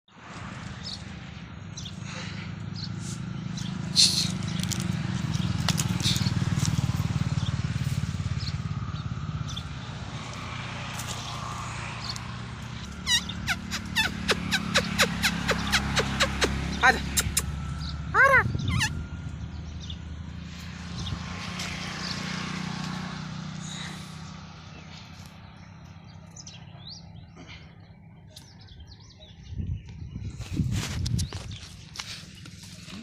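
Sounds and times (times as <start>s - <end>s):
birds chirping: 0.1s - 33.0s.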